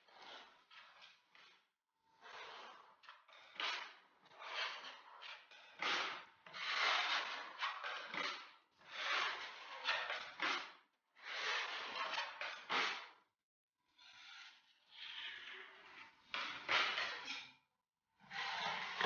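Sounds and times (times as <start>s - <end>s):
filling knife scraping plaster wall: 0.0s - 13.2s, 13.9s - 17.6s, 18.2s - 19.0s.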